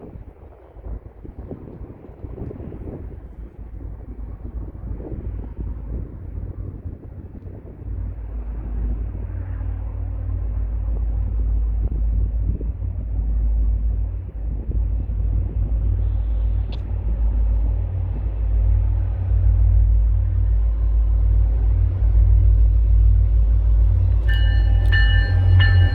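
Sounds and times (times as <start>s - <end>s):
diesel train rumbling past: 0.0s - 25.9s.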